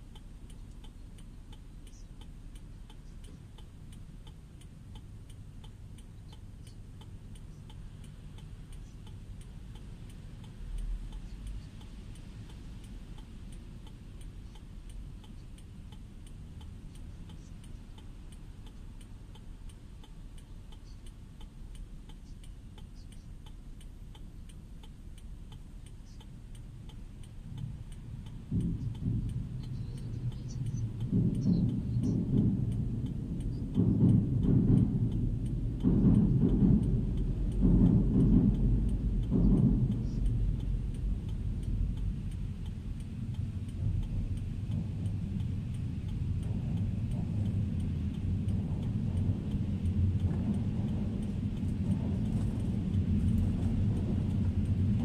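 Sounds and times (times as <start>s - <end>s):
car turn signal ticking: 0.0s - 55.0s
low rumble: 0.0s - 55.0s.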